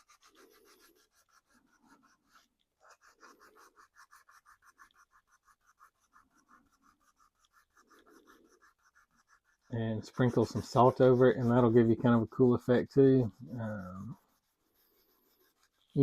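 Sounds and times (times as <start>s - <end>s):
scratching on plastic: 0.0s - 16.0s.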